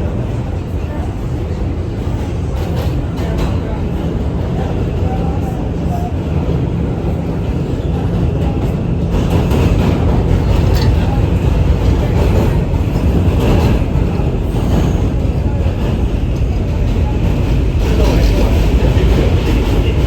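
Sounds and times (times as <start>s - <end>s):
subway train rumbling on track: 0.0s - 20.0s.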